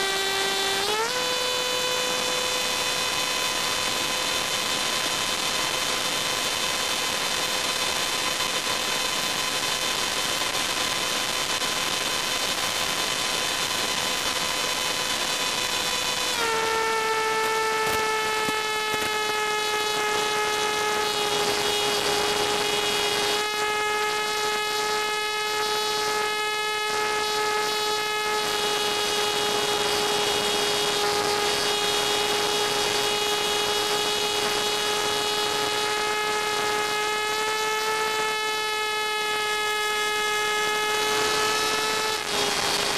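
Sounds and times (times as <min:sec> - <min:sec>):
pitched motor hum: 0:00.0 - 0:42.9.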